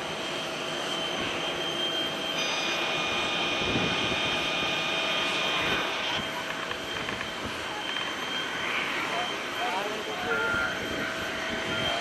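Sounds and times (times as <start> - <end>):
jet engine rush: 0.0 - 12.0
jet engine whine: 0.0 - 12.0.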